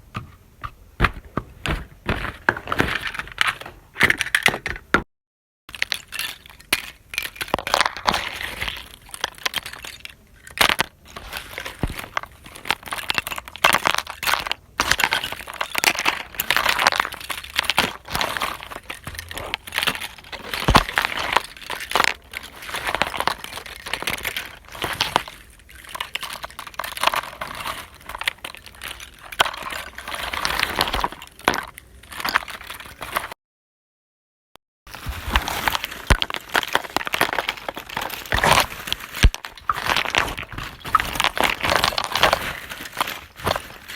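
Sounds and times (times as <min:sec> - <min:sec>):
small hard objects clinking and breaking: 0:05.7 - 0:33.4, 0:34.9 - 0:43.9.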